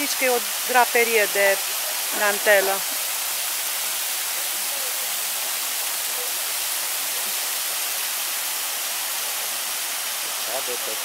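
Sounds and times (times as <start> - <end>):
waterfall splashing into pool: 0.0 - 11.0.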